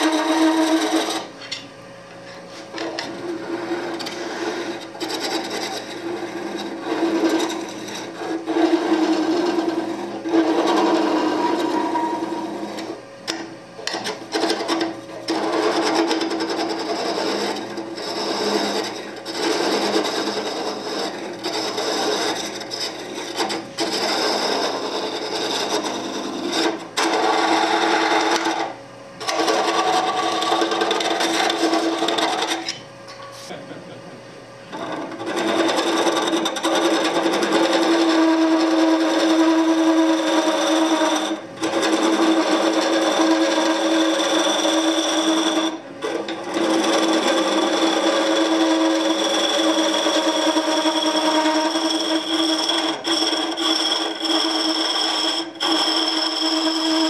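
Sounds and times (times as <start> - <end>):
turning tool scraping wood: 0.0 - 1.5, 2.1 - 32.8, 34.7 - 57.0
lathe humming: 0.0 - 57.0.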